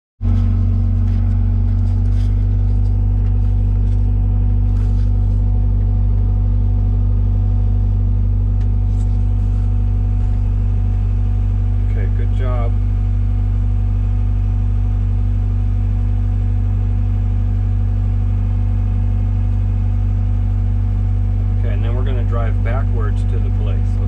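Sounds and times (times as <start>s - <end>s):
excavator diesel engine droning: 0.2s - 24.0s.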